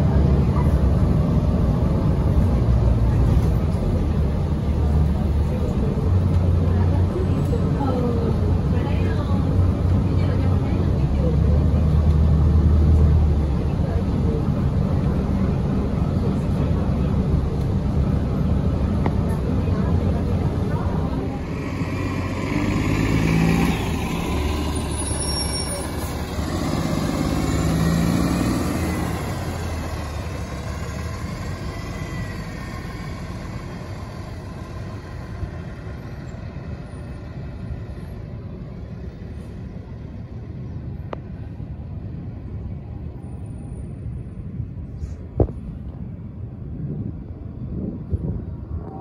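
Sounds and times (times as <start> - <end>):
bus engine and road noise: 0.0 - 49.0.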